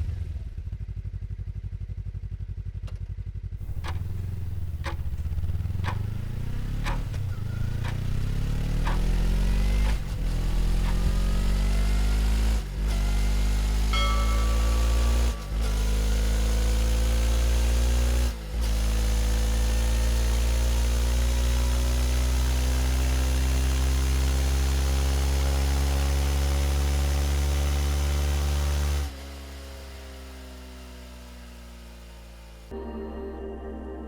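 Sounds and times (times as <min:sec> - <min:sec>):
motorcycle engine accelerating: 0:00.0 - 0:32.8.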